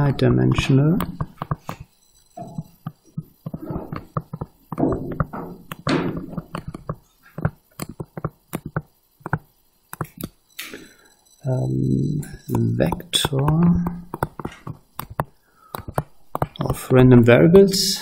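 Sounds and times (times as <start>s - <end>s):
stylus tapping and scratching on screen: 0.0s - 17.3s.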